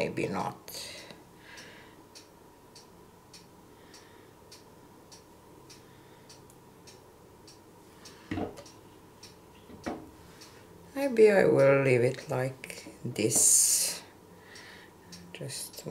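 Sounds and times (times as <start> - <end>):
faint clock ticking: 0.7 - 15.9.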